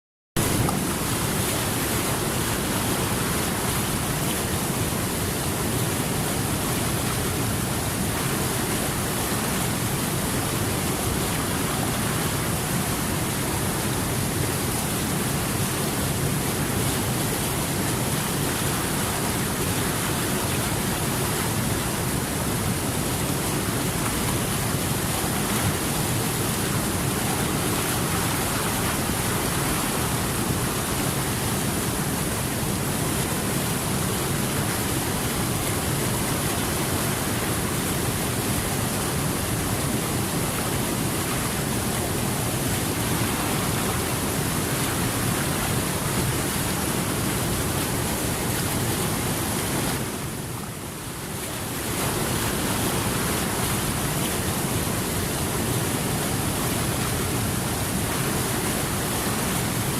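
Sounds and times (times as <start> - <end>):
rushing water: 0.4 - 59.9.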